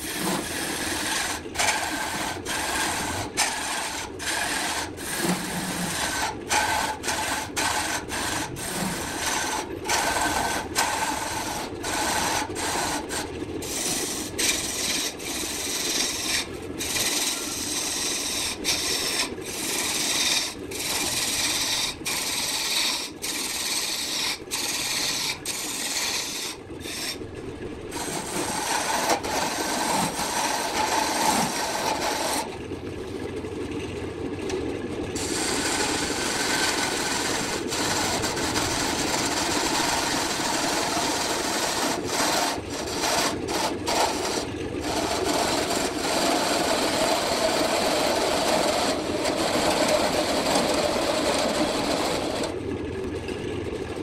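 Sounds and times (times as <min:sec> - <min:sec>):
lathe tool rasping wood: 0:00.0 - 0:27.2, 0:27.9 - 0:32.6, 0:35.2 - 0:52.6.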